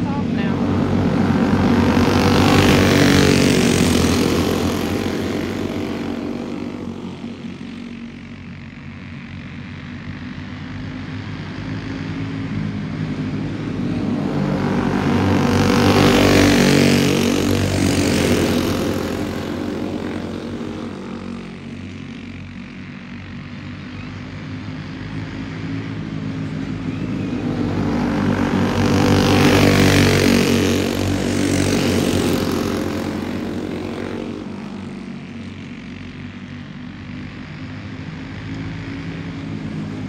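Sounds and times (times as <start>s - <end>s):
go-kart engines passing by: 0.0s - 40.0s.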